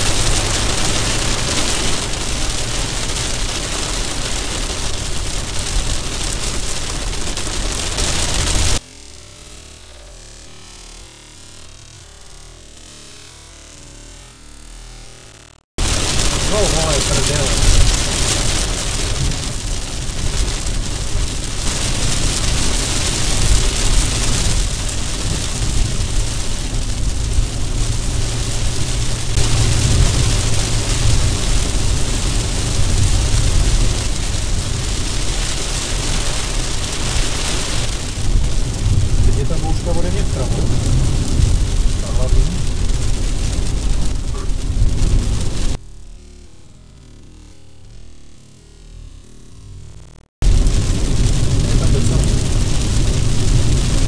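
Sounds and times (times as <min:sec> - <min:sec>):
heavy rain on car roof: 0:00.0 - 0:54.0
low rumble of moving car: 0:00.0 - 0:54.0.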